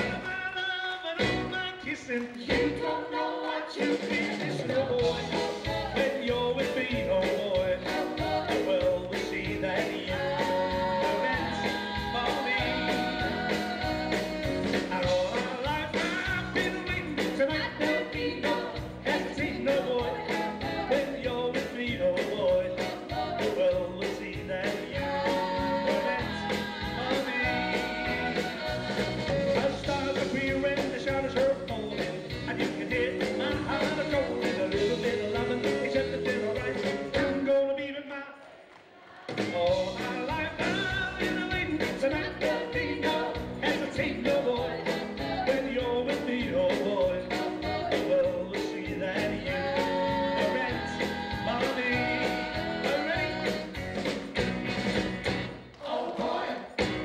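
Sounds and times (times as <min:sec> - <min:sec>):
man singing: 0:00.0 - 0:02.6, 0:03.8 - 0:38.4, 0:39.4 - 0:53.8
rock and roll band playing: 0:00.0 - 0:37.7, 0:39.2 - 0:57.0.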